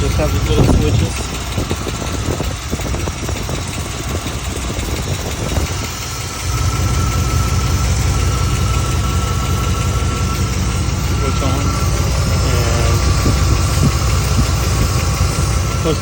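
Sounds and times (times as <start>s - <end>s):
engine idling: 0.0s - 16.0s
engine ticking: 0.0s - 16.0s.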